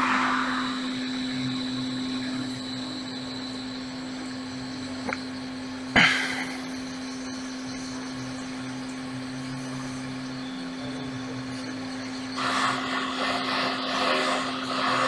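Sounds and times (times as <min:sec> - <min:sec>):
hot air station whirring: 0:00.0 - 0:15.0.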